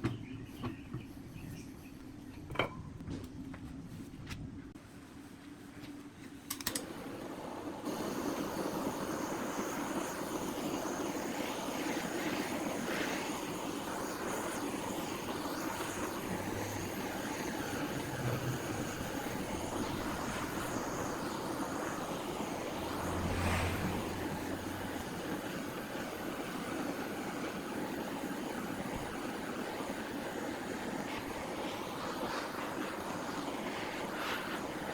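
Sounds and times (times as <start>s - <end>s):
machine droning with high whine: 6.4s - 34.9s.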